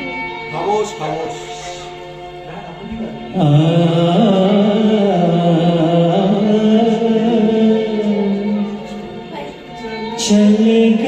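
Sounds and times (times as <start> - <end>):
ghazal song: 1.5 - 11.0.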